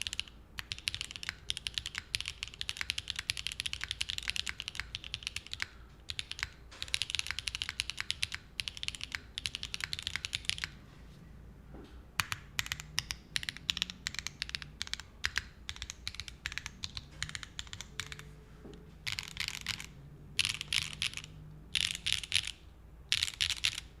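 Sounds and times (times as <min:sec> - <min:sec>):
typing on mechanical keyboard: 0:00.0 - 0:10.8, 0:12.2 - 0:18.4, 0:19.0 - 0:24.0.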